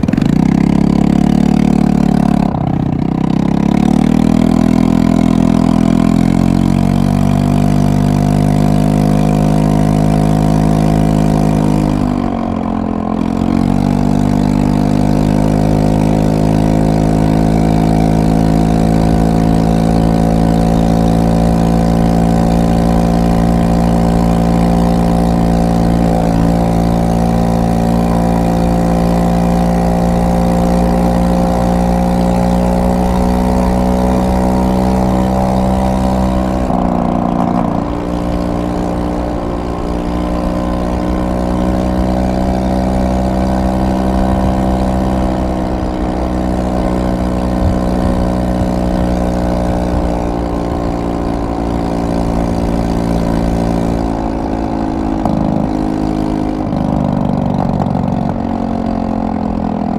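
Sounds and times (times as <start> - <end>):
scooter engine droning: 0.0 - 59.9.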